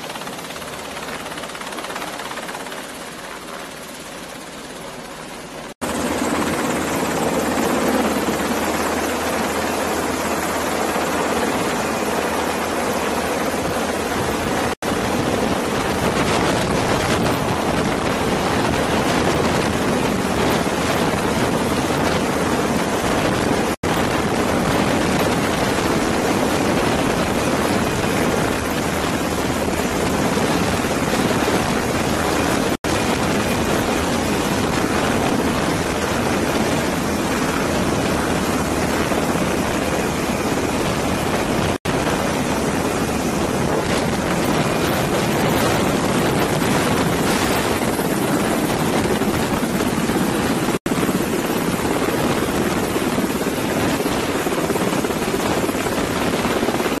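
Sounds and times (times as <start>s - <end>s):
helicopter hovering overhead: 0.0s - 57.0s.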